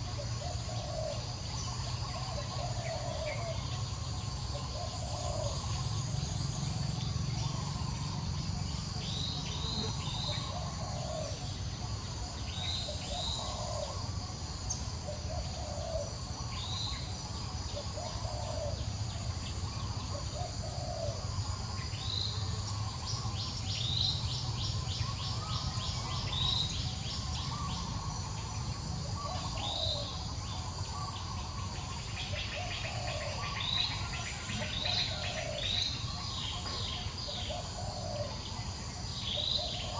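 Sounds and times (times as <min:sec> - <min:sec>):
insect buzz and trill: 0:00.0 - 0:39.9.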